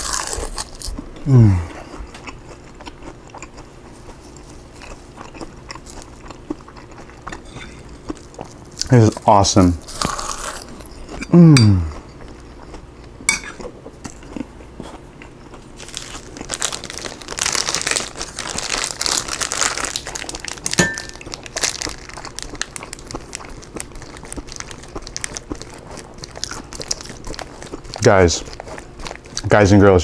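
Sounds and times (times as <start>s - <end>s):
person chewing crunchy food: 0.0s - 29.5s.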